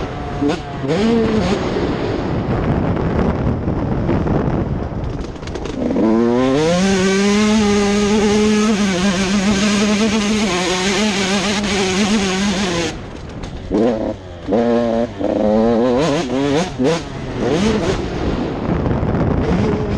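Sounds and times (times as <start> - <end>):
motocross bike engine revving: 0.0 - 2.3, 5.3 - 19.9.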